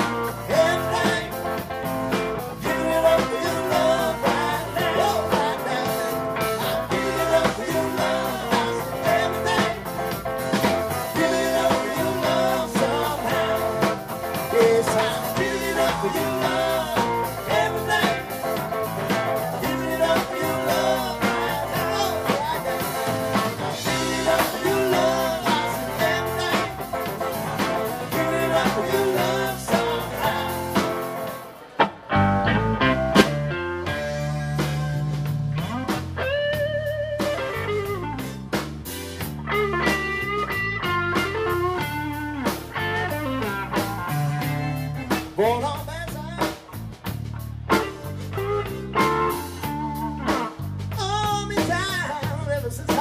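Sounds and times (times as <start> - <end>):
blues band playing: 0.0 - 53.0.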